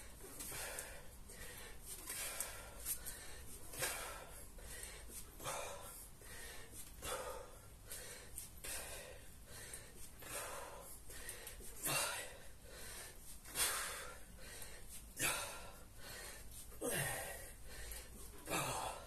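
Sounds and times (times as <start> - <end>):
man breathing hard: 0.0 - 19.0.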